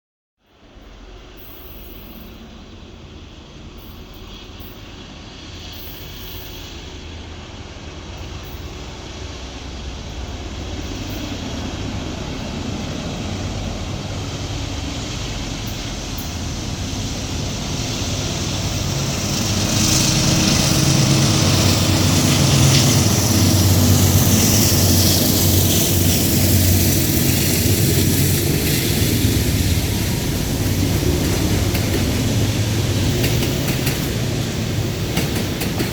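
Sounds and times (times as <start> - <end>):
locomotive engines droning: 0.6 - 35.9
rushing hiss: 1.0 - 35.9.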